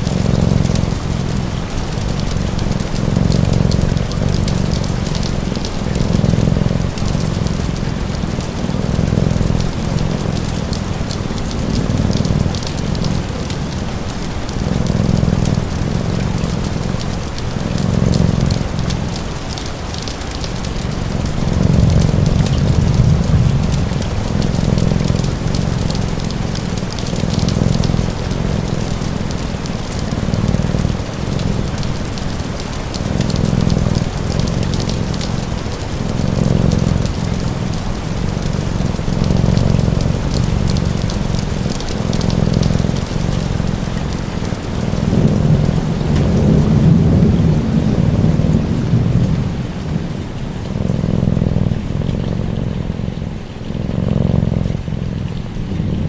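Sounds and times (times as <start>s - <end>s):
cat purring: 0.0s - 56.0s
steady rain with crackling ticks: 0.0s - 56.0s.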